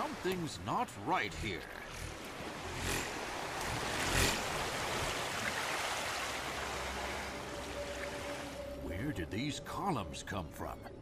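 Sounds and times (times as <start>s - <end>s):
sea water washing around ship: 0.0s - 8.9s.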